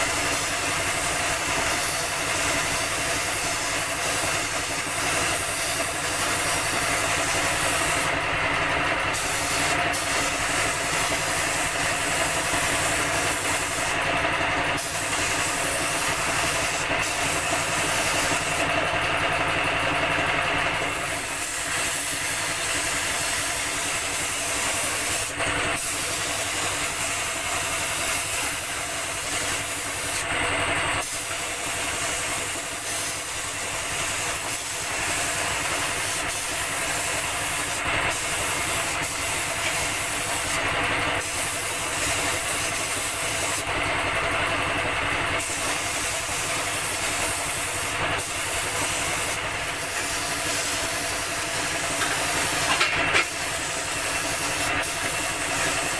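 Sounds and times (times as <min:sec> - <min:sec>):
spray gun hissing: 0:00.0 - 0:08.1, 0:09.1 - 0:14.0, 0:14.8 - 0:18.6, 0:21.0 - 0:30.3, 0:31.0 - 0:40.6, 0:41.2 - 0:43.6, 0:45.4 - 0:55.9
air compressor hum: 0:00.0 - 0:55.9.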